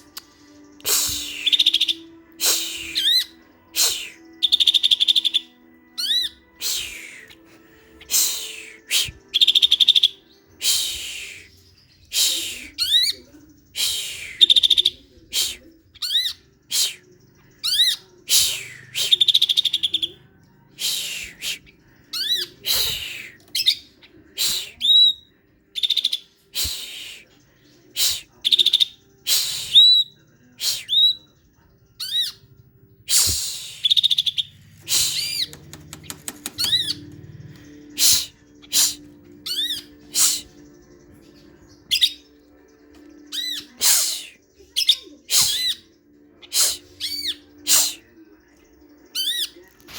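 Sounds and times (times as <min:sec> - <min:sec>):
bird singing whistles and trills: 0:00.0 - 0:20.2, 0:20.8 - 0:27.4, 0:28.0 - 0:31.4, 0:32.0 - 0:37.2, 0:37.8 - 0:48.1.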